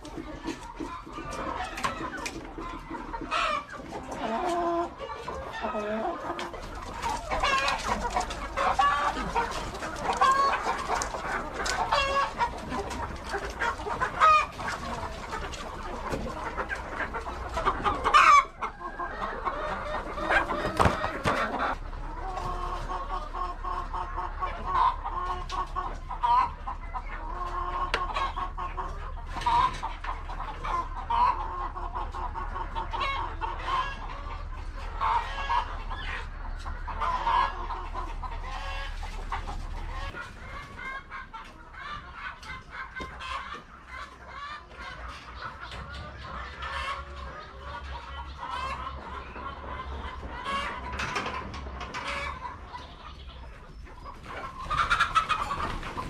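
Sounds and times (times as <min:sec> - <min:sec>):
hens clucking and squawking: 0:00.0 - 0:56.0.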